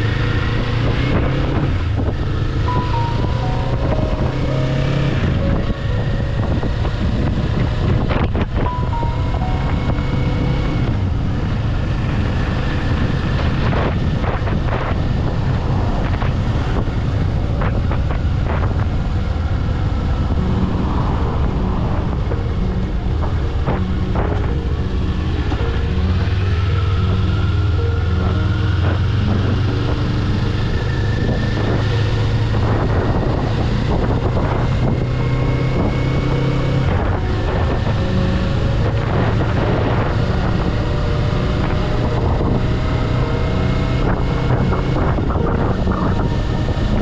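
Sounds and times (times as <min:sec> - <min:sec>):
motorcycle engine running: 0:00.0 - 0:47.0
wind noise on microphone: 0:00.0 - 0:47.0.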